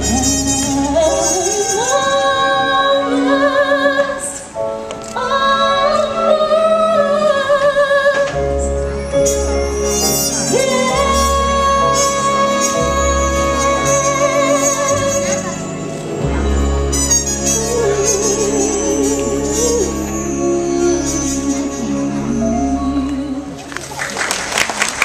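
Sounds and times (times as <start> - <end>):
woman singing with vibrato: 0.0 - 4.5, 5.1 - 8.7, 10.0 - 15.9, 17.1 - 23.8
orchestral stage-show music: 0.0 - 25.0.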